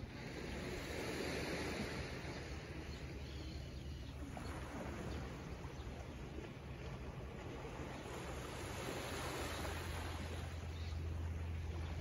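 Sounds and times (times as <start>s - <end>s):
seaside ambience: 0.0s - 12.0s.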